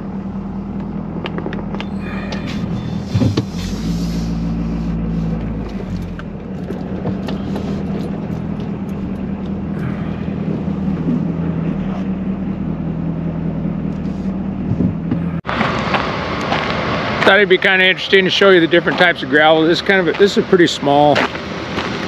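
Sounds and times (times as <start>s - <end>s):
truck engine humming from inside cab: 0.0s - 22.0s.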